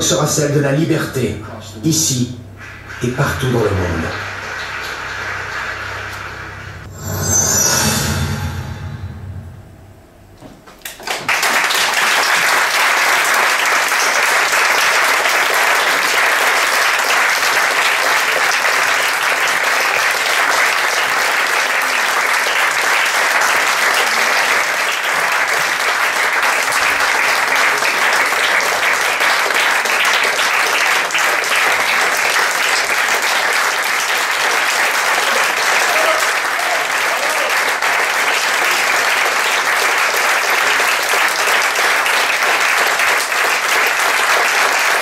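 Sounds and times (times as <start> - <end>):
audience applauding: 2.1 - 6.9, 10.8 - 45.0.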